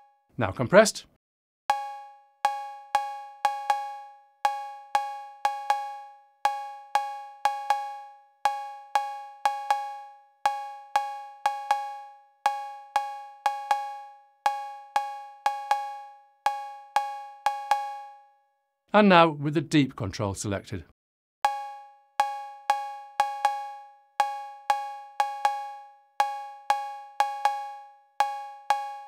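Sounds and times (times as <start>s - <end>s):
cowbell pattern: 1.7s - 18.2s, 21.5s - 29.0s.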